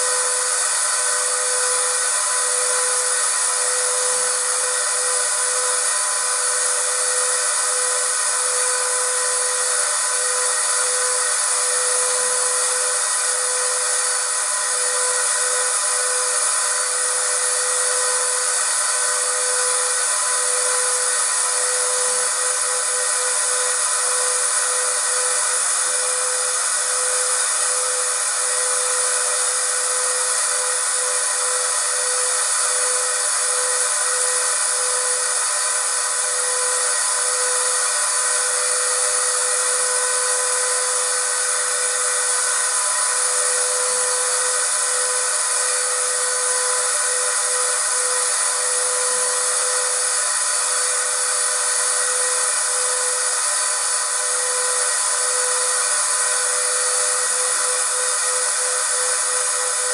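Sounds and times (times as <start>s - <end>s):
vacuum cleaner motor whining: 0.0s - 59.9s.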